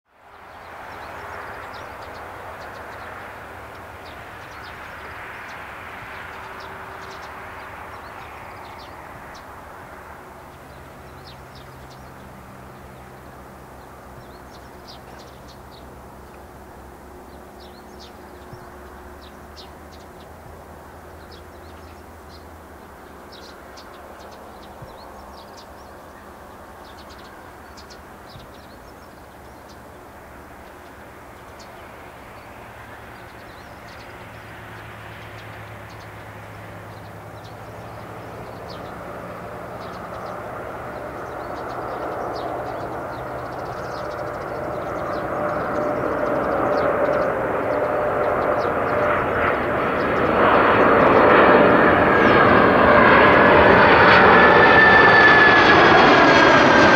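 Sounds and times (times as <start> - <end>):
small birds chirping: 0.2 - 56.9.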